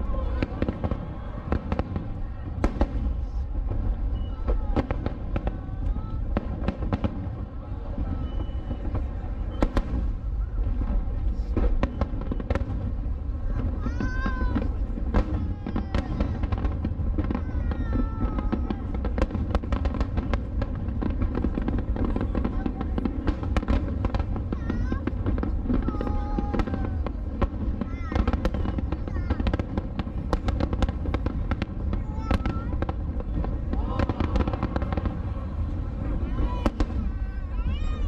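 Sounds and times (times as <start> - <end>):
firework bangs: 0.0 - 38.0.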